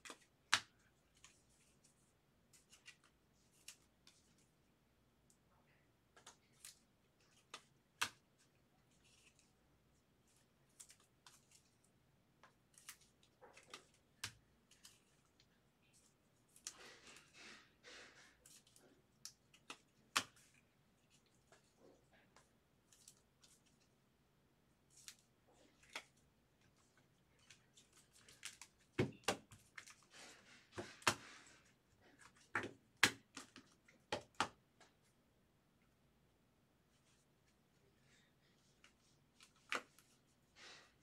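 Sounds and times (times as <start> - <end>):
cards rustling: 0.0 - 4.6, 6.1 - 9.6, 10.2 - 24.0, 24.8 - 35.1, 38.6 - 41.0.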